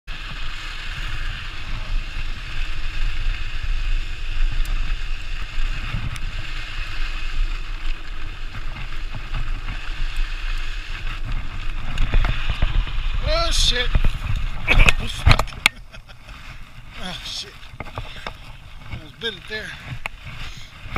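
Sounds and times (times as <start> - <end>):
low tyre rumble: 0.1 - 20.9
wind noise on microphone: 0.1 - 20.9
bike clicks and rattles: 0.2 - 20.9.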